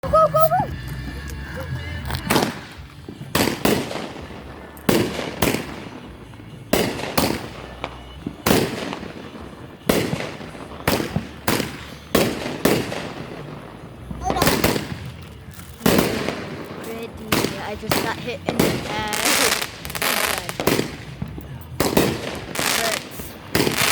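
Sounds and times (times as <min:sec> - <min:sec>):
fireworks bangs: 0:00.0 - 0:23.9.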